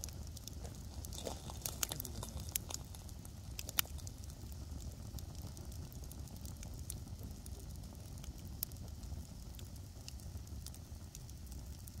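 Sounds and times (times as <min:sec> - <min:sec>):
campfire crackling and popping: 0:00.0 - 0:12.0
low steady rumble: 0:00.0 - 0:12.0.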